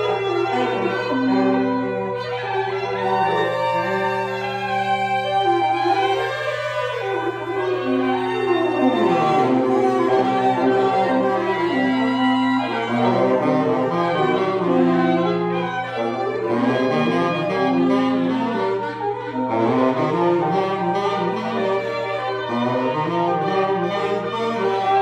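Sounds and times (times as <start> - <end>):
free jazz reed ensemble: 0.0 - 25.0.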